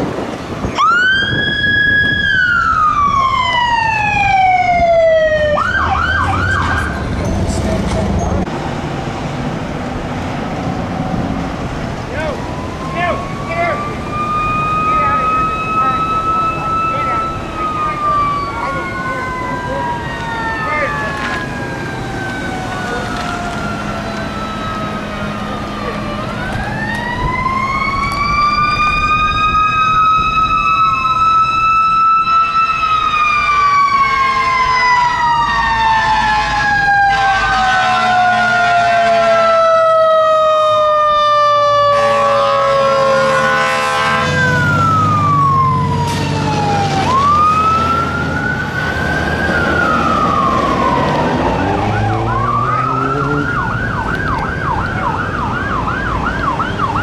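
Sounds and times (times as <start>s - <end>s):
fire engine sirens wailing: 0.0s - 57.0s
heavy truck engines: 0.0s - 57.0s.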